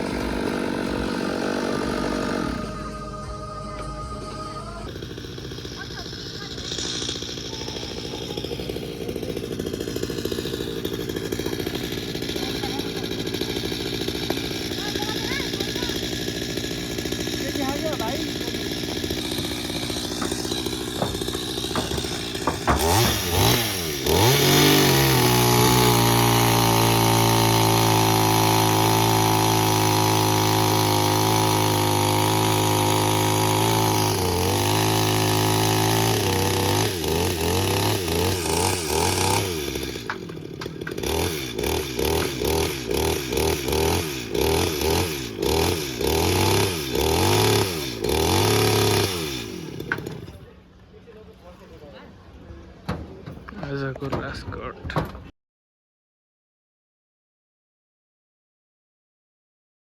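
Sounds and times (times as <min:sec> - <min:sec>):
small petrol engine revving: 0:00.0 - 0:50.5.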